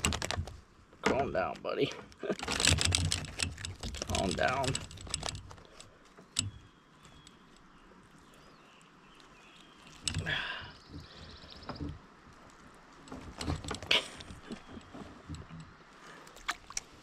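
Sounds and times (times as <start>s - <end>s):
knocks and rattles in a kayak: 0.0s - 7.7s, 9.8s - 17.0s.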